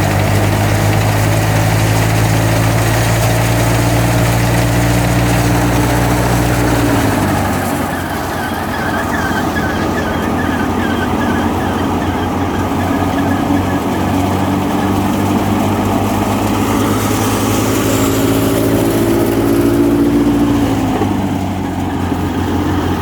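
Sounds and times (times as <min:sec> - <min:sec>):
higher engine hum: 0:00.0 - 0:23.0
thresher mechanical drone: 0:00.0 - 0:23.0.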